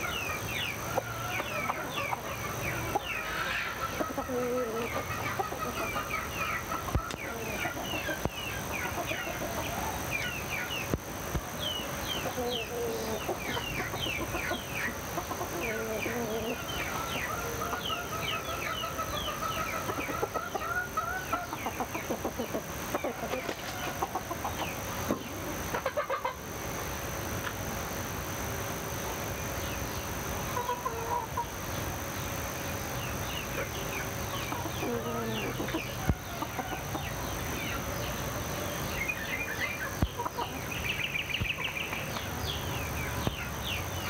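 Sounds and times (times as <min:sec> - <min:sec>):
chickens clucking: 0:00.0 - 0:44.0
small birds chirping: 0:00.0 - 0:44.0.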